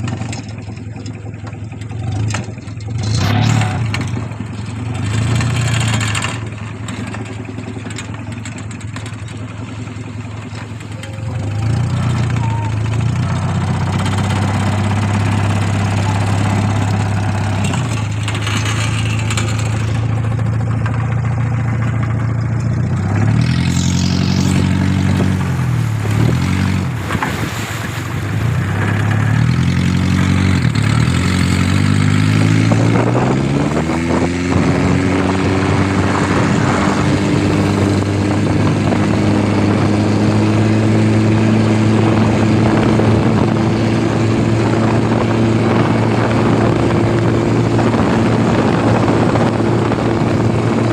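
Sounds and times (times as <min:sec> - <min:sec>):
boat engine running and revving: 0:00.0 - 0:50.9.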